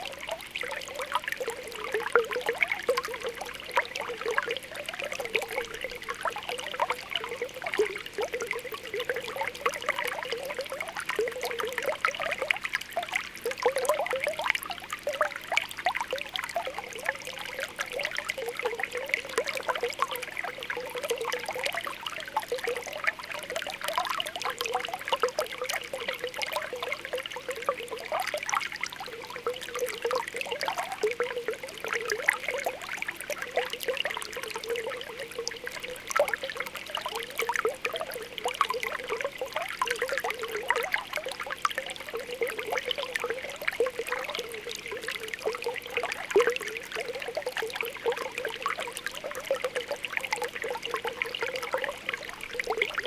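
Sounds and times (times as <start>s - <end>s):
spring water bubbling and popping: 0.0s - 53.0s.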